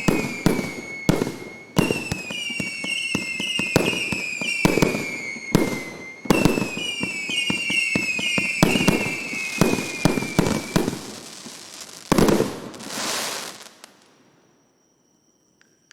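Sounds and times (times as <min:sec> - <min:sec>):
firework bangs: 0:00.0 - 0:14.5
crackling hiss: 0:00.0 - 0:15.9
falling firework whistles: 0:00.0 - 0:15.9.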